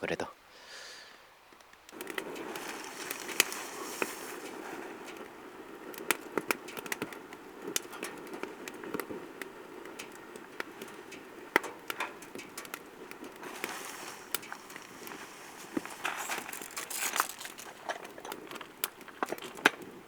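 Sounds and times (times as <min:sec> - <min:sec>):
steady fire hiss: 0:00.1 - 0:20.0
damp firewood crackling and popping: 0:01.0 - 0:20.0.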